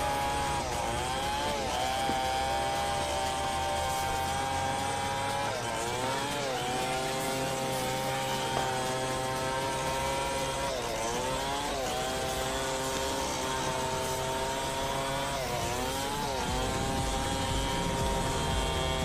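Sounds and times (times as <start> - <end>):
chainsaw engine running: 0.0 - 19.0.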